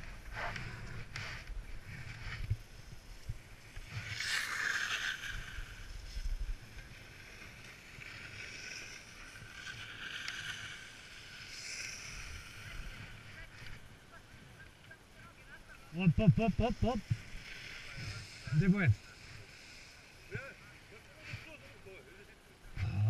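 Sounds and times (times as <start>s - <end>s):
skis swishing on snow: 0.0s - 14.6s, 16.7s - 22.2s.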